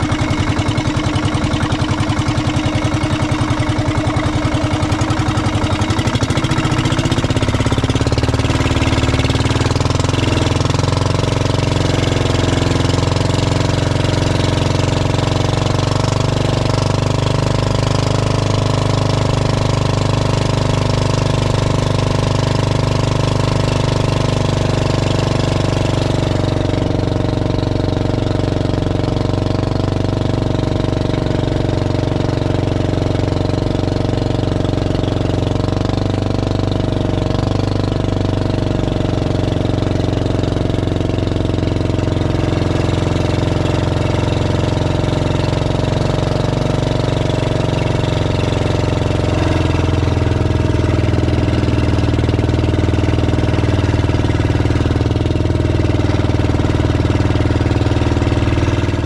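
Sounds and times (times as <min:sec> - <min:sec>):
small boat engine running: 0:00.0 - 0:59.0.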